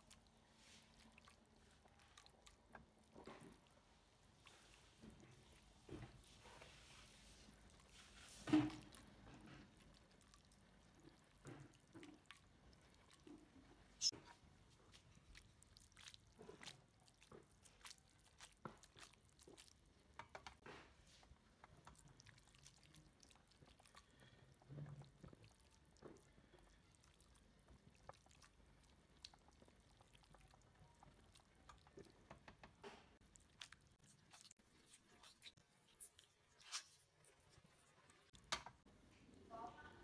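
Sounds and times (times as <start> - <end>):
wet squelching of pasta: 0.0 - 38.6.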